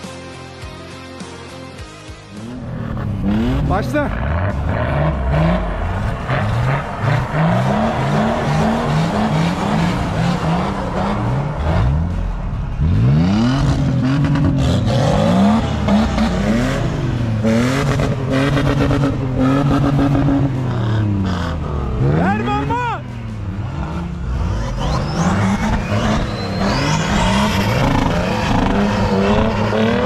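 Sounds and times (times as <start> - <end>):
engine revving hard: 2.4 - 22.8, 23.5 - 30.0.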